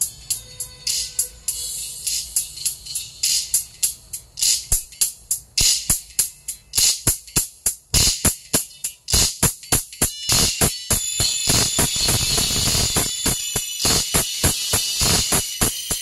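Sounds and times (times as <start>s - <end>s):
jingling percussion music: 0.0s - 16.0s.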